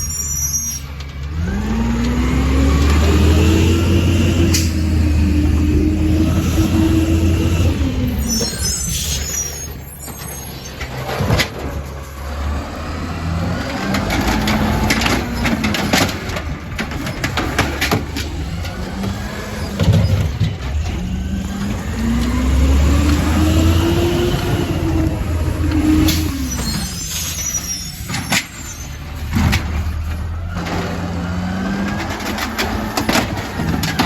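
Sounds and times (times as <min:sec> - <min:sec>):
truck engine revving: 0:01.2 - 0:34.0.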